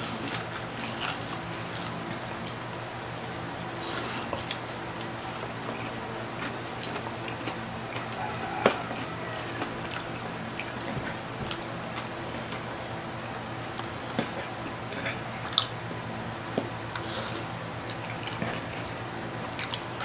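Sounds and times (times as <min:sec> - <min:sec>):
chewing crispy food: 0:00.0 - 0:15.8, 0:16.6 - 0:20.0.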